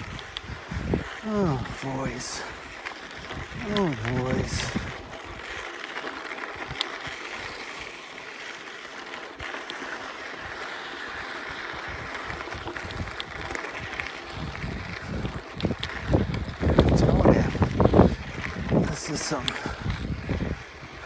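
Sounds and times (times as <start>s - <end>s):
bike clicking over stones: 0.0s - 21.0s
bike tyres hissing on gravel: 0.0s - 21.0s.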